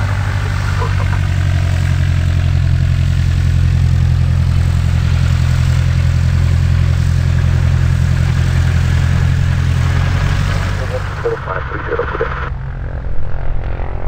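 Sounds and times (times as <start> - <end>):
light aircraft engine droning: 0.0 - 14.0.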